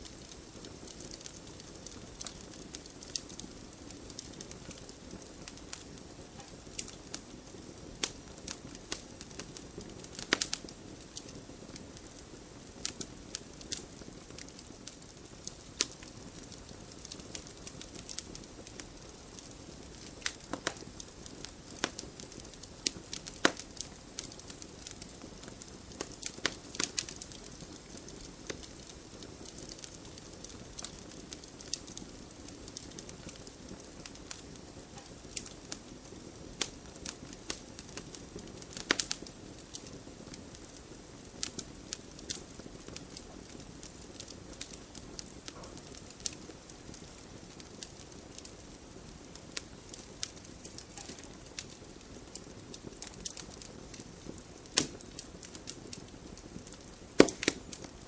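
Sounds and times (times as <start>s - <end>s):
soft rush of flame: 0.0s - 58.0s
wood fire crackling and popping: 0.0s - 58.0s.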